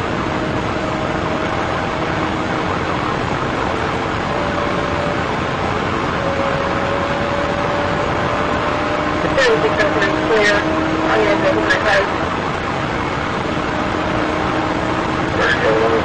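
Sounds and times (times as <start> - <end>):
road and wind noise inside car: 0.0 - 16.0.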